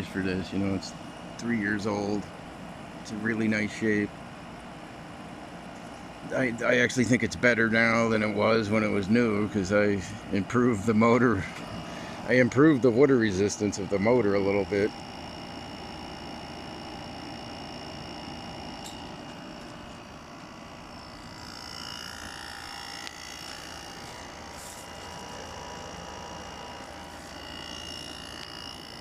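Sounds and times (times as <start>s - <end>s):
air conditioner fan whooshing: 0.0s - 29.0s.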